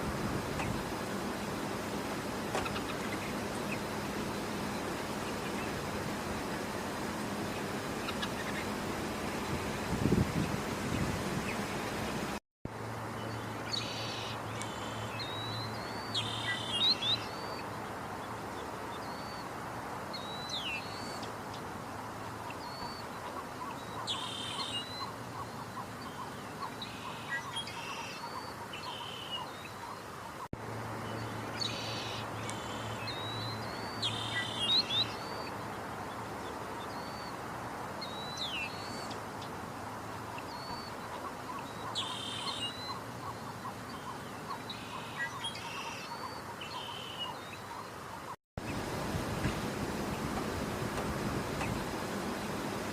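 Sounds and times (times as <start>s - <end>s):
steady background hiss: 0.0s - 52.9s.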